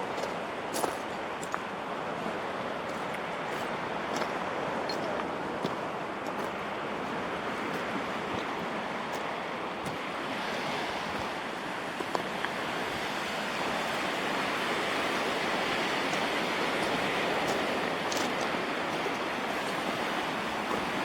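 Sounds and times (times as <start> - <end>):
ocean surf rushing: 0.0 - 21.0.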